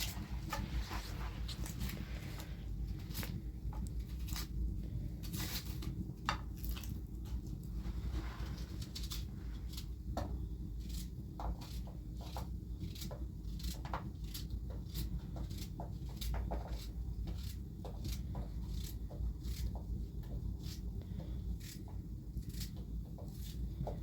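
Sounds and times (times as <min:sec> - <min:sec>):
steady low rumble: 0:00.0 - 0:15.6, 0:16.9 - 0:24.0.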